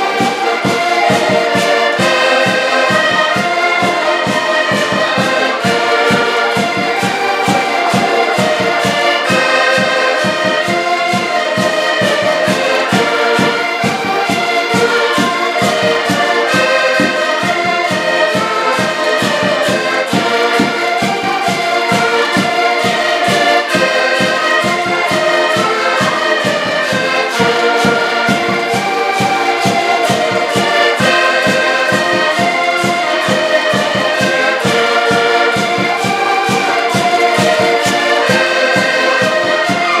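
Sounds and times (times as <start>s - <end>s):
accordions playing dance tune: 0.0s - 40.0s.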